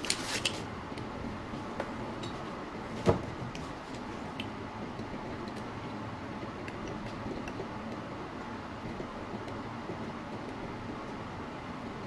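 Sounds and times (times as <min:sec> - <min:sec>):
workshop background noise: 0:00.0 - 0:11.3.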